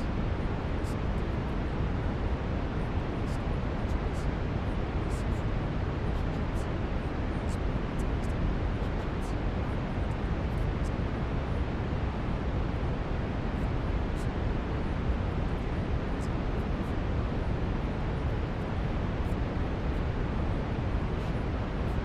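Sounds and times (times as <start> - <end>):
brown noise hiss: 0.0 - 22.0.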